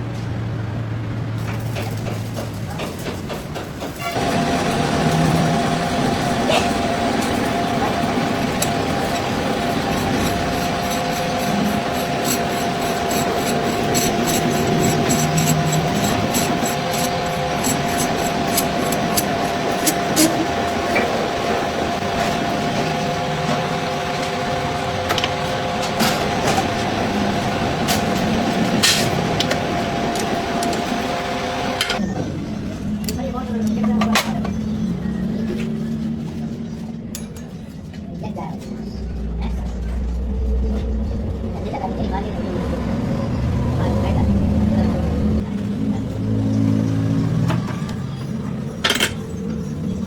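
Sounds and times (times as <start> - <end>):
workshop machinery humming: 0.0 - 50.0.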